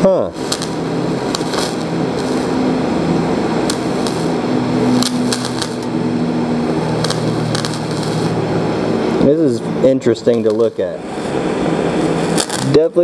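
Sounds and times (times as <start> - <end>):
welding arc buzzing hiss: 0.0 - 13.0.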